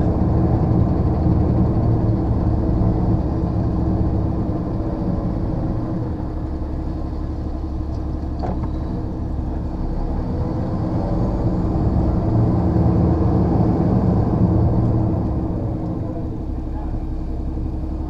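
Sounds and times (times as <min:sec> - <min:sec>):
lorry diesel engine hum: 0:00.0 - 0:18.0.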